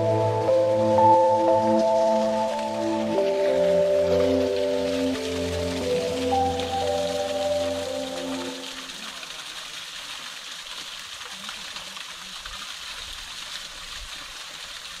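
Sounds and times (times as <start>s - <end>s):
running water hiss: 0.0s - 15.0s.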